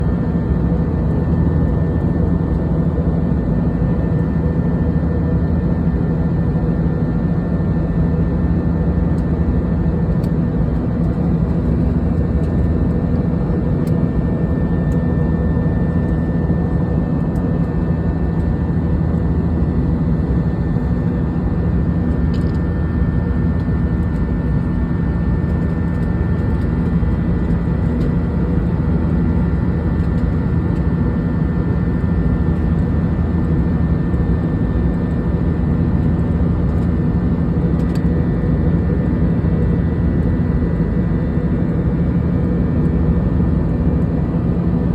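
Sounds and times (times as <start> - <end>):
airplane engine drone: 0.0 - 44.9
faint steady whine: 0.0 - 44.9.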